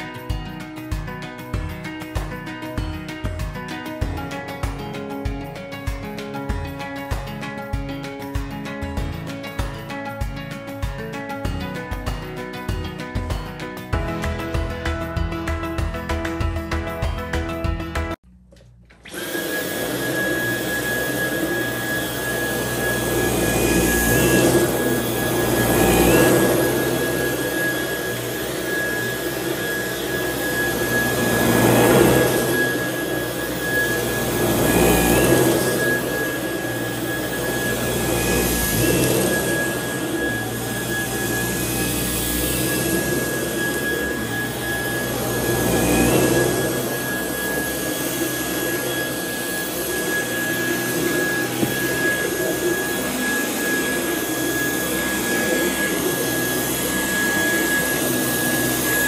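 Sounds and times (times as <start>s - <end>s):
vacuum cleaner on carpet: 0.0s - 18.1s, 19.0s - 59.0s.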